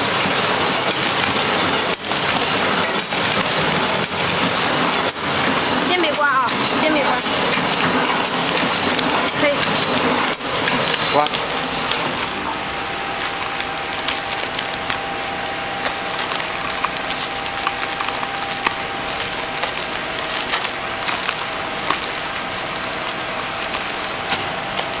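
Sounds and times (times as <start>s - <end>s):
packing machine running: 0.0s - 25.0s.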